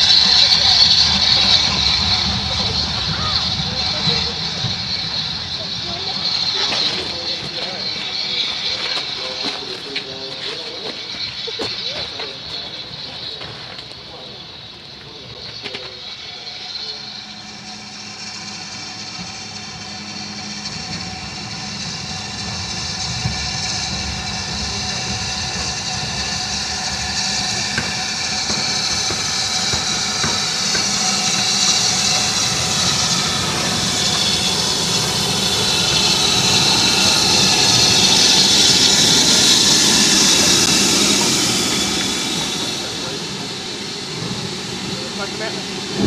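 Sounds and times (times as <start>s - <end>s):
steam locomotive passing: 0.0s - 46.0s.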